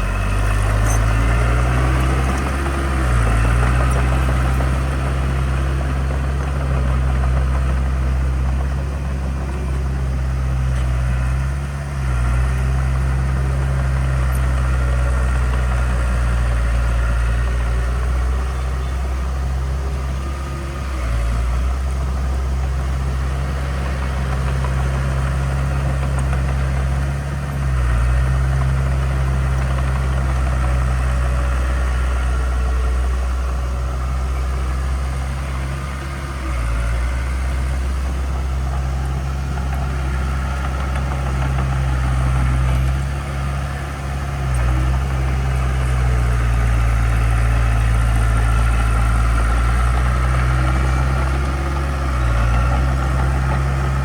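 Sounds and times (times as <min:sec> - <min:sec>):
heavy diesel engine rumbling: 0:00.0 - 0:54.0.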